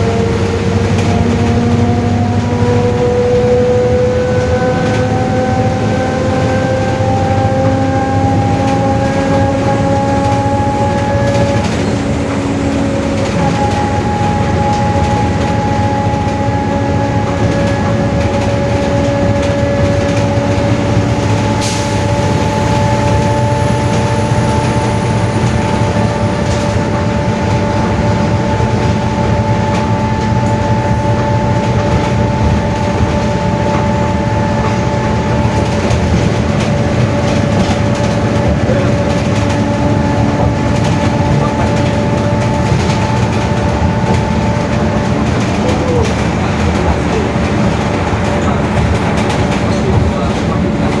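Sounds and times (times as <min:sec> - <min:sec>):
bus engine and road noise: 0:00.0 - 0:51.0.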